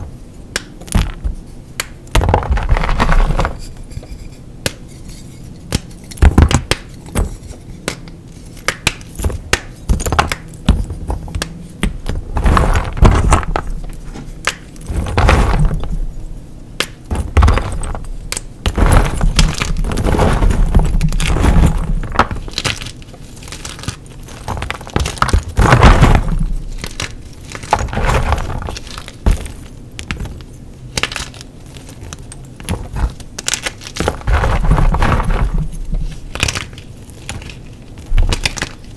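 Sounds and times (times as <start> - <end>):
chalk cracking and snapping: 4.6 - 15.0, 17.7 - 38.9.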